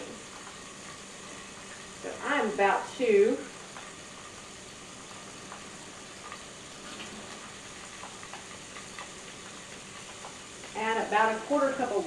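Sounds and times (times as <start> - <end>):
chicken frying in oil: 0.0 - 12.0
oil popping and crackling: 0.0 - 12.0.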